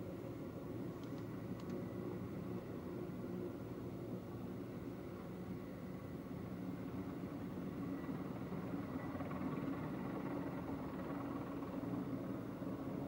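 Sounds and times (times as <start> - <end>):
distant helicopter drone: 0.0 - 13.0.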